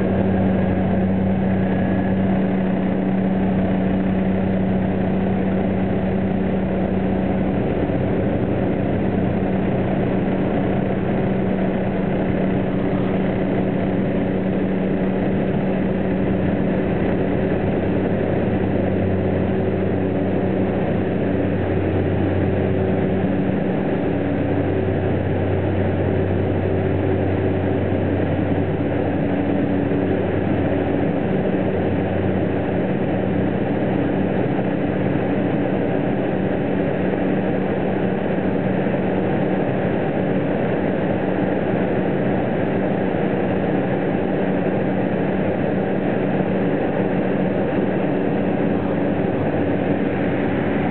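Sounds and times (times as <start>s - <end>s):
plane engine and propeller humming: 0.0s - 50.9s.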